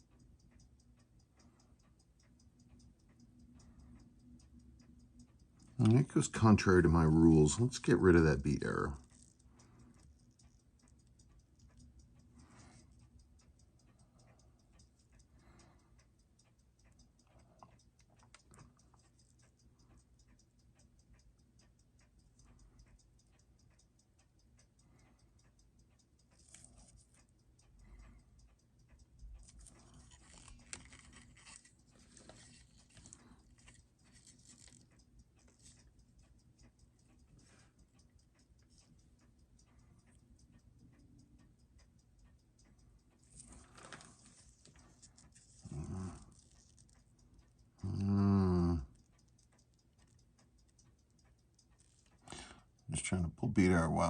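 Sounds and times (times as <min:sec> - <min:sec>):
watch ticking rapidly: 0:00.0 - 0:54.0.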